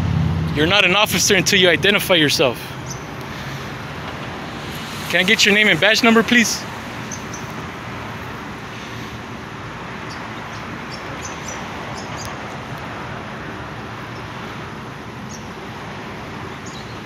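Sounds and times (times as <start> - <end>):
outdoor background hiss and rumble: 0.0 - 17.0.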